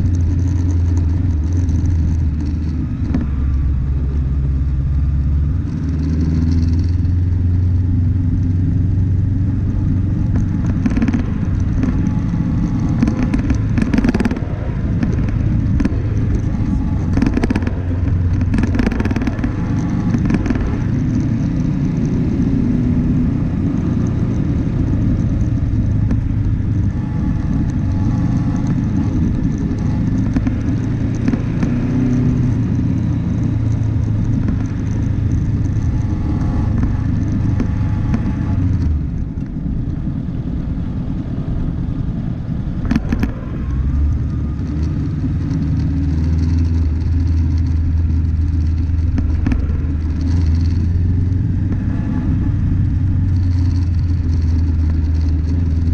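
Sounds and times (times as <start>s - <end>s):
road rumble: 0.0s - 55.9s
vehicle engine drone: 0.0s - 55.9s.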